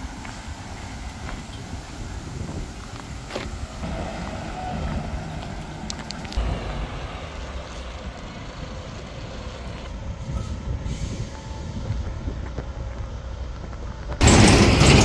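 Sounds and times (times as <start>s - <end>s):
vehicles passing on road: 0.0s - 15.0s.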